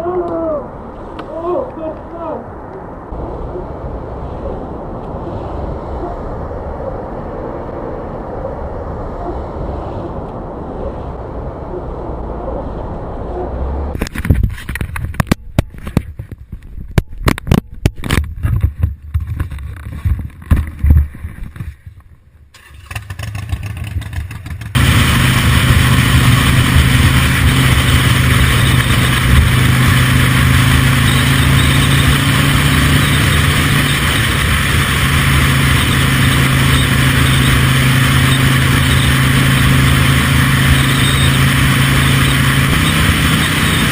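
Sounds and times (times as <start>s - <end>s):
steady engine drone: 0.0s - 14.2s, 22.8s - 43.9s
low hum: 0.0s - 43.9s
road vehicle rumble: 0.0s - 43.9s.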